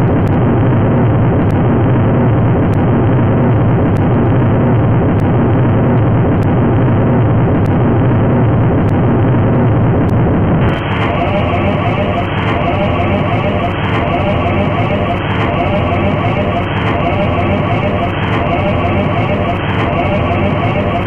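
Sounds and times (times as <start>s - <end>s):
muffled cockpit engine roar: 0.0s - 21.0s.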